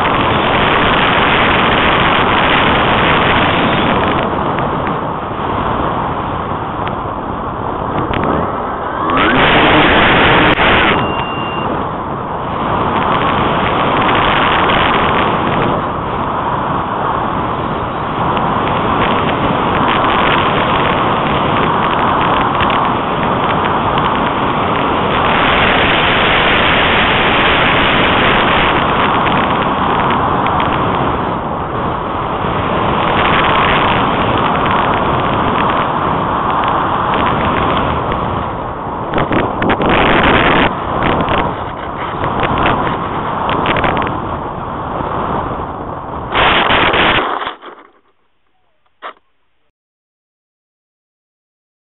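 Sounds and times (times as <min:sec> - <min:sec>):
rushing wind noise: 0:00.0 - 0:49.2.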